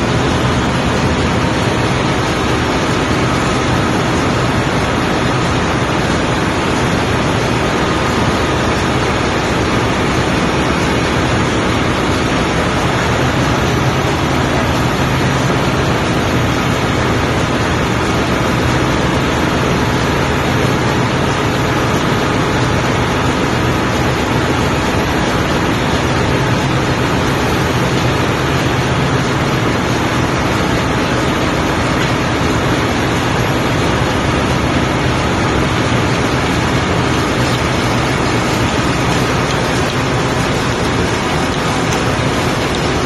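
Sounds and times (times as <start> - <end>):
machinery droning: 0.0 - 43.0.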